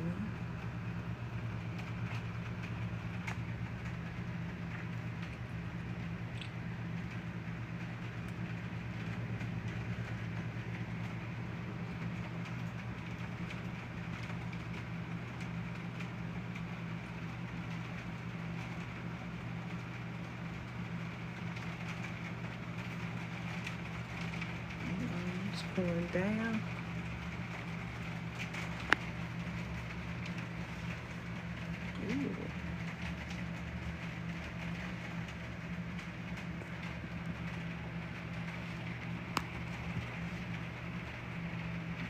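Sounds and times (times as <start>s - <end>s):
heavy rain pouring: 0.0s - 42.0s
steady low hum: 0.0s - 42.0s.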